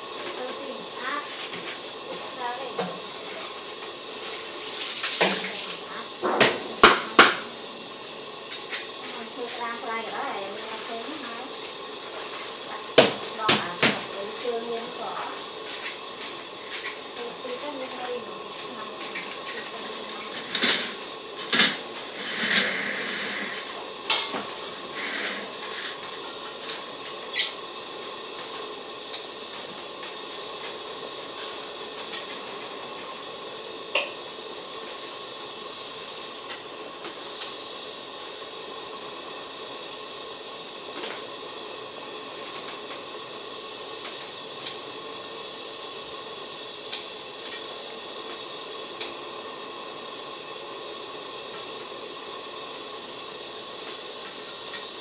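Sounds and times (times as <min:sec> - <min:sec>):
soup boiling: 0:00.0 - 0:55.0.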